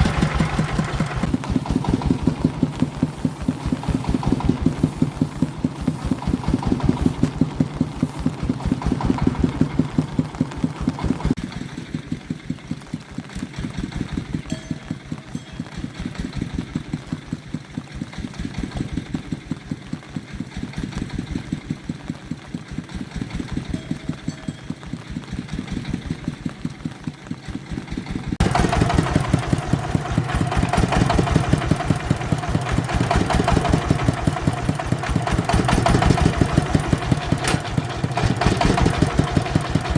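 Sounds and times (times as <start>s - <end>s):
farm vehicle engine pulsing: 0.0s - 39.9s.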